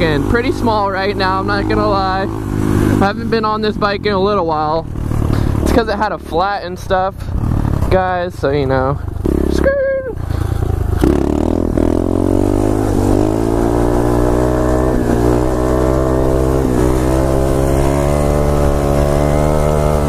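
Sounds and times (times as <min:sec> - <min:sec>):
motorbike engine at high revs: 0:00.0 - 0:20.0.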